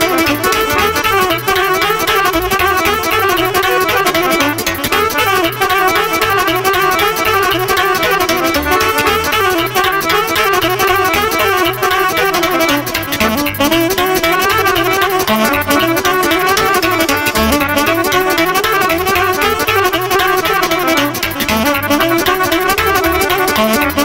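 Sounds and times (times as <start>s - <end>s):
live band playing folk dance music: 0.0s - 24.0s.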